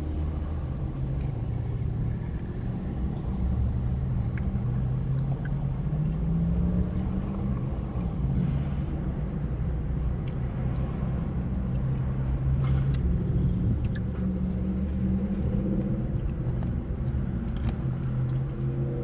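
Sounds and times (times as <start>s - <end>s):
low engine-like hum: 0.0s - 19.0s.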